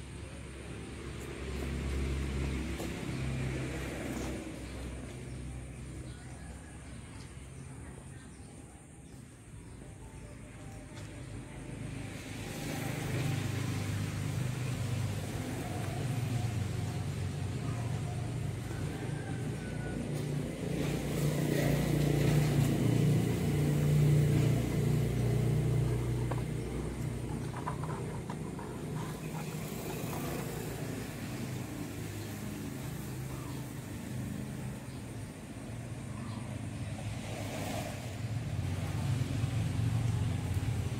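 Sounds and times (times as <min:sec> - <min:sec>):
vehicle engine rumbling: 0:00.0 - 0:40.9.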